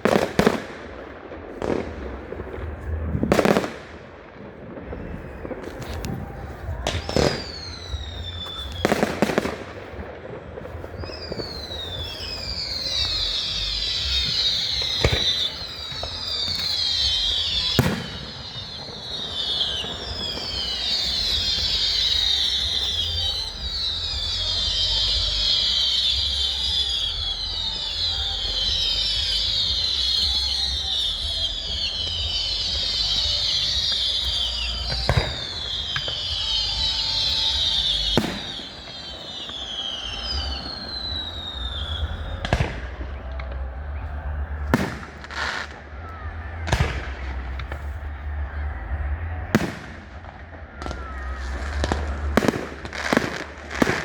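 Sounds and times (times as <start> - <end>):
firework bangs: 0.0 - 54.0
whistling fireworks: 0.0 - 54.0.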